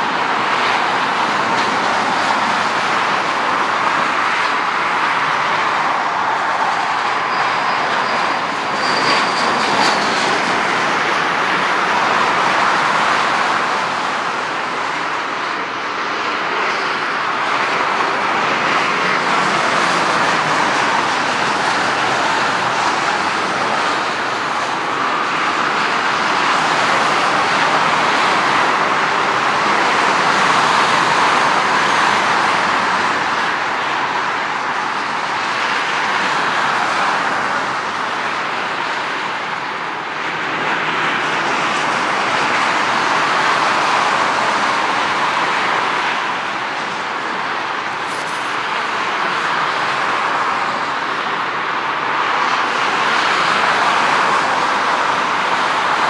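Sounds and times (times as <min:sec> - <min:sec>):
jet engines taxiing: 0:00.0 - 0:56.0.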